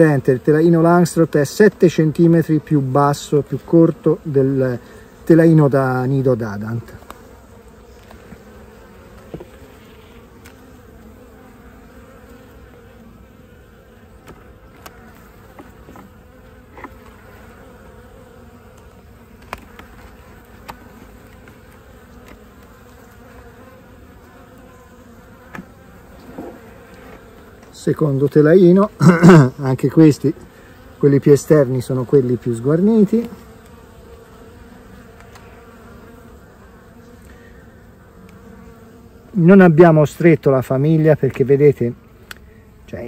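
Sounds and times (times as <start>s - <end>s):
honeybees humming: 0.0s - 43.0s.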